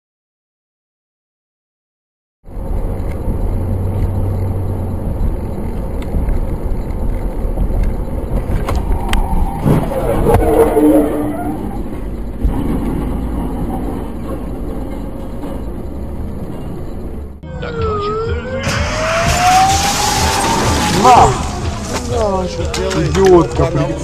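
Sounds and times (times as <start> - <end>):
car engine and tyre noise: 2.4 - 24.0.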